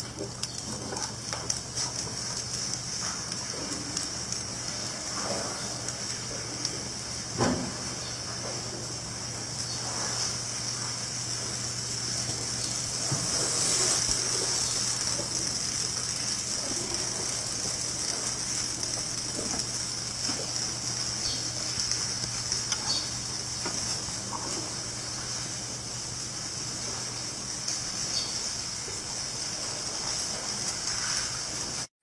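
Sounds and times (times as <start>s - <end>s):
high-pitched hiss: 1.6s - 31.9s.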